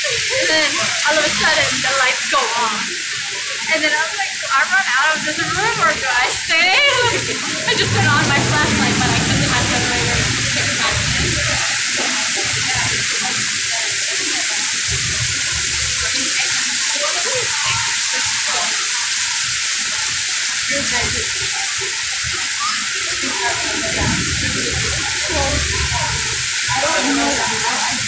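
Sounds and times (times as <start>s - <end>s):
heavy rain on pavement: 0.0s - 28.0s.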